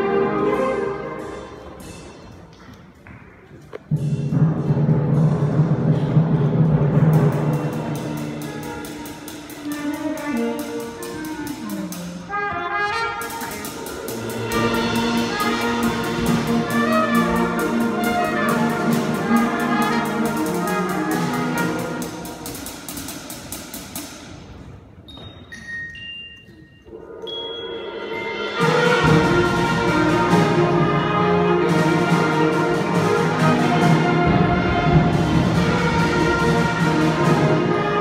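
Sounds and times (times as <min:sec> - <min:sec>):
concert band playing: 0:00.0 - 0:03.0, 0:03.6 - 0:24.6, 0:27.0 - 0:38.0.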